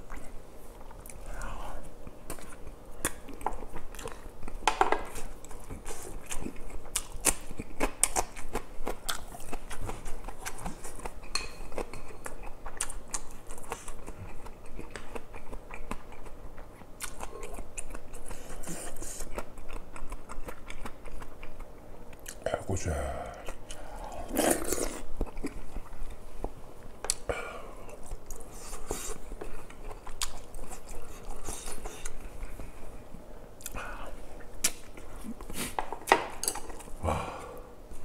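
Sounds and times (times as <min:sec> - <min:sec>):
close chewing with mouth clicks: 0:00.0 - 0:22.4, 0:23.4 - 0:37.0.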